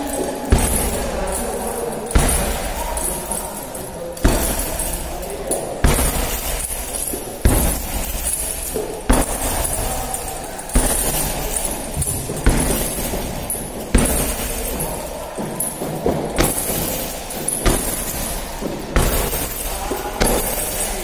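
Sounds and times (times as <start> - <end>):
chains jingling: 0.0 - 21.0
kicks thudding on punching bag: 0.4 - 21.0.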